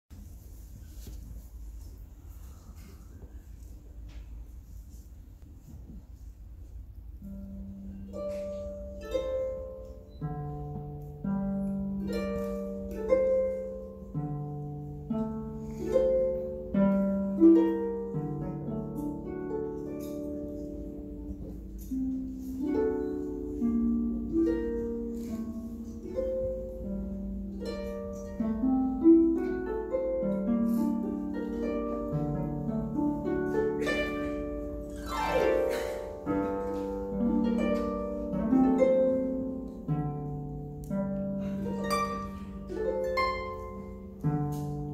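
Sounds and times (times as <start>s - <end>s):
harp glissando: 7.2s - 44.9s
solo harp playing: 7.2s - 44.9s.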